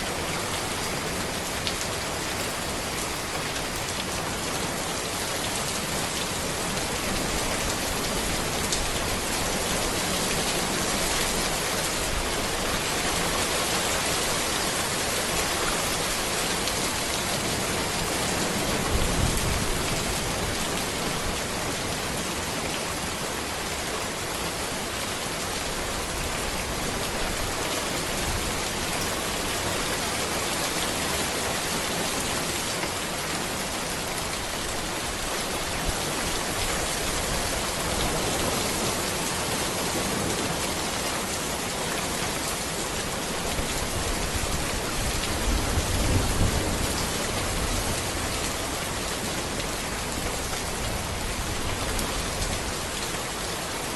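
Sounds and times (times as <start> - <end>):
rain falling on road: 0.0 - 53.9.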